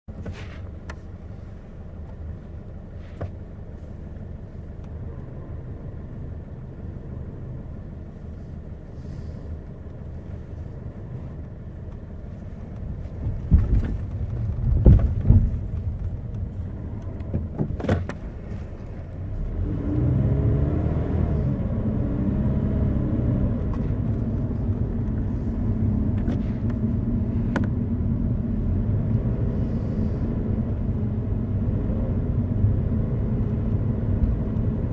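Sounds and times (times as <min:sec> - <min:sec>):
car engine rumbling: 0:00.1 - 0:34.9.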